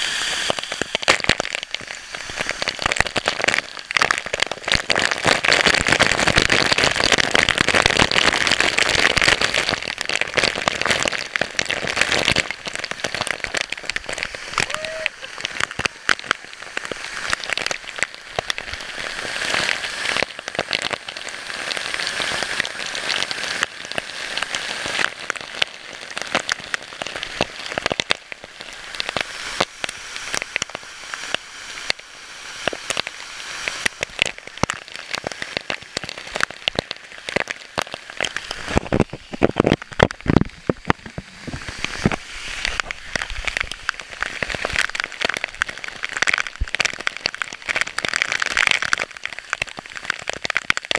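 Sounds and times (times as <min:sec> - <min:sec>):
waterfall rushing: 0:00.0 - 0:50.3.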